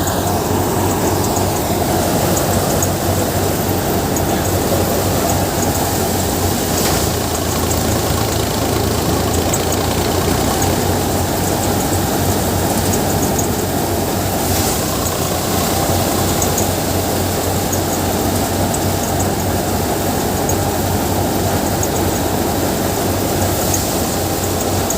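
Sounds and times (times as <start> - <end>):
thresher drum and fans whirring: 0.0 - 24.9
tractor engine humming: 0.0 - 24.9.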